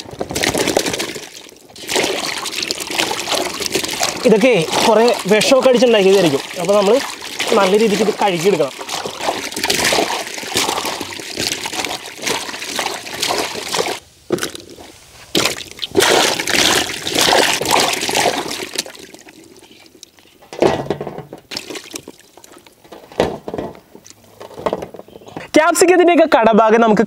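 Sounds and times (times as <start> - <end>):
water dripping: 0.0 - 20.3, 21.5 - 22.9
water splashing in a metal basin: 0.0 - 23.7.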